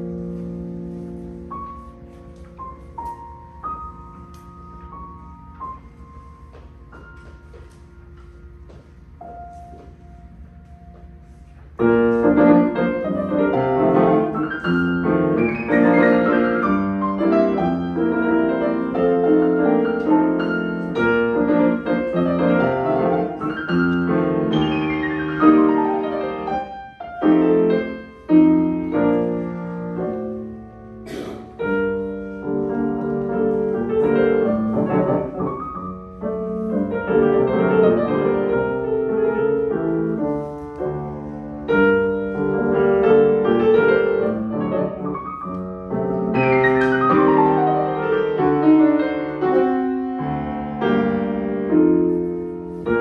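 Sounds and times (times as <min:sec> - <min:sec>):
solo grand piano: 0:00.0 - 0:53.0.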